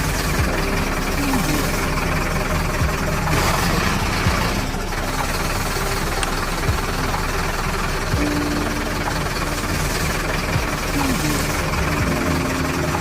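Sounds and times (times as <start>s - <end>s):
engine idling: 0.0s - 13.0s
steady tone: 0.0s - 13.0s.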